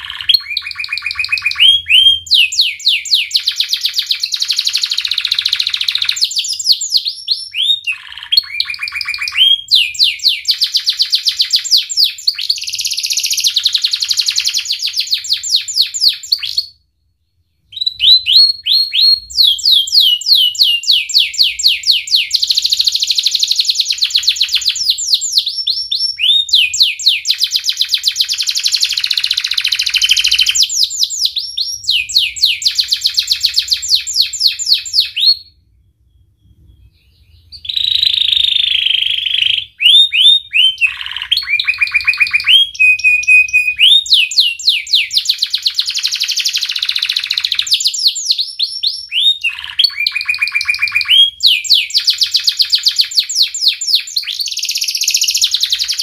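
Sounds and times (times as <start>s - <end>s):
canary singing trills: 0.0s - 16.8s, 17.4s - 56.0s.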